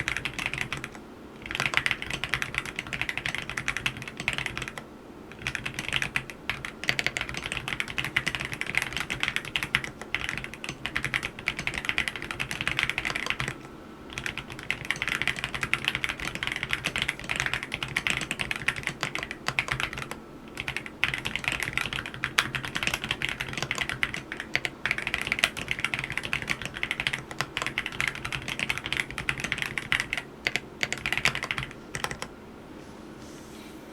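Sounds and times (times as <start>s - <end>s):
mechanical keyboard typing: 0.0s - 32.3s.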